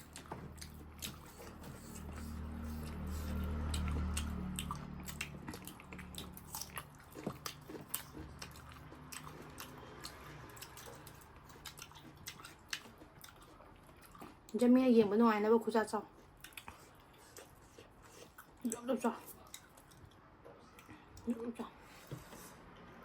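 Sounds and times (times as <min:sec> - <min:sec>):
chewing and biting food: 0:00.0 - 0:14.7, 0:16.0 - 0:21.3.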